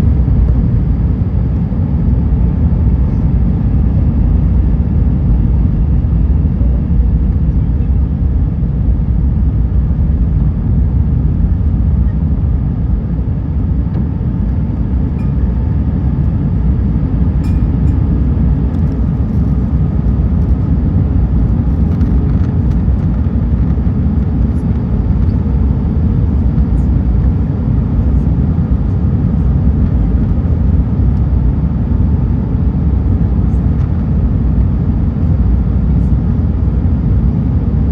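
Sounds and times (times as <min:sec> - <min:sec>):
jet engine cabin rumble: 0:00.0 - 0:37.9.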